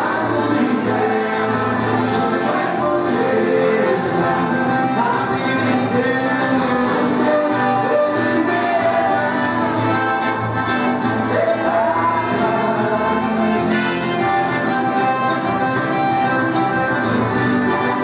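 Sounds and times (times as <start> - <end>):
man singing: 0.0 - 15.1
acoustic guitar: 0.0 - 18.0
piano accordion: 0.0 - 18.0.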